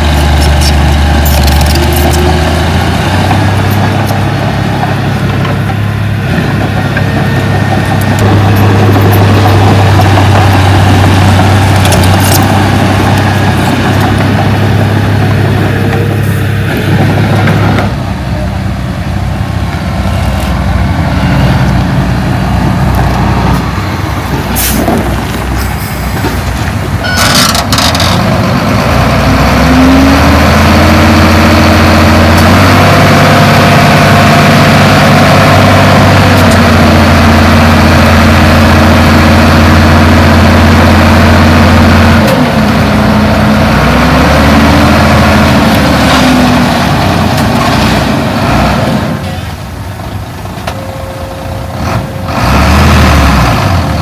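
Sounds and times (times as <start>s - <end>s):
heavy diesel engine revving: 0.0s - 54.0s.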